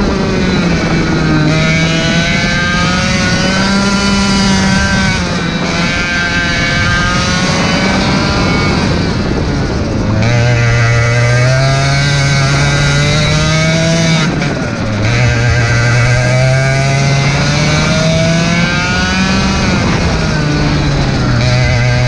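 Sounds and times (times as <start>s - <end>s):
kart engine at speed: 0.0s - 22.0s.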